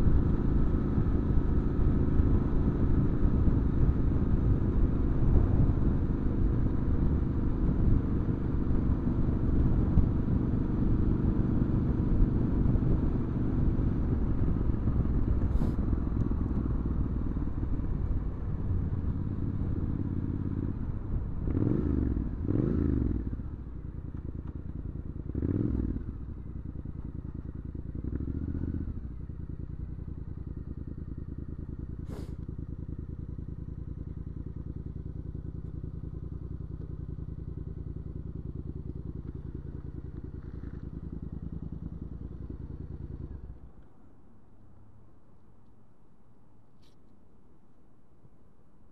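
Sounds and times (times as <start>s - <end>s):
motorcycle engine revving: 0.0s - 43.4s
motorcycle engine running: 0.0s - 43.7s
motorcycle engine idling: 0.0s - 45.6s.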